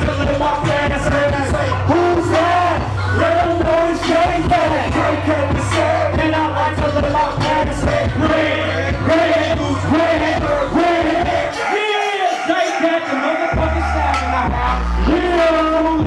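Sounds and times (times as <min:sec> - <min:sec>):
heavy bass line: 0:00.0 - 0:16.0
rapping over a beat: 0:00.0 - 0:16.0.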